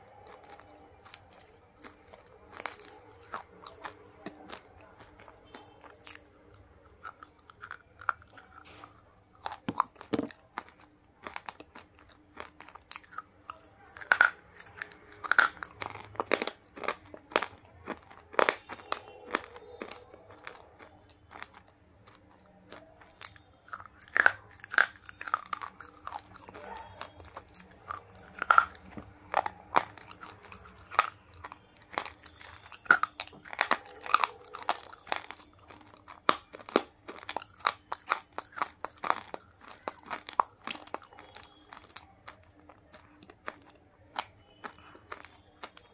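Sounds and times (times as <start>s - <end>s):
biting and chewing crunches: 0.0s - 45.9s.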